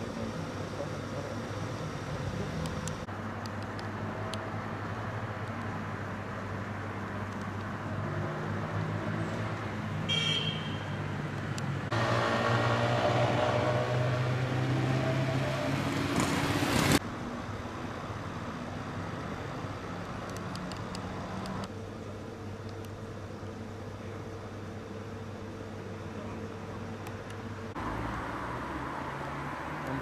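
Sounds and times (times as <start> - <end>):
loud vehicle engine noise: 0.0 - 22.4, 25.8 - 30.0
vehicle engine hum: 0.0 - 30.0.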